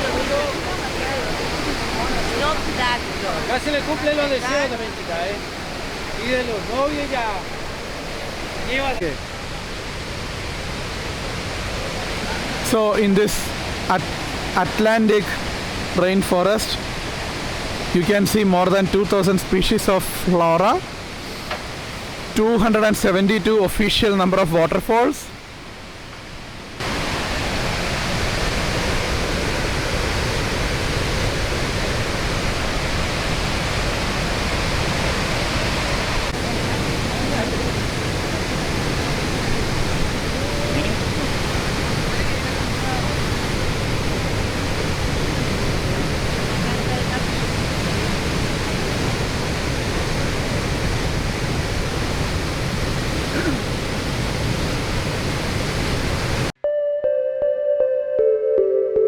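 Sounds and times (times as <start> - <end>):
waterfall rushing: 0.0 - 56.6.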